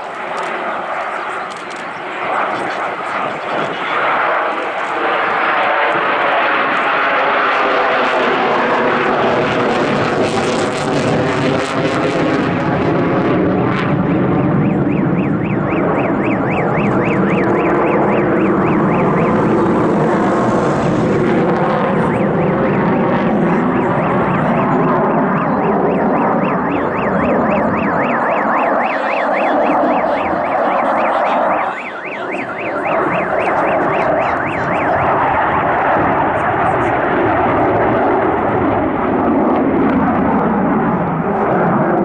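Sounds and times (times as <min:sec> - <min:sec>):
jet engines with afterburners: 0:00.0 - 0:42.0.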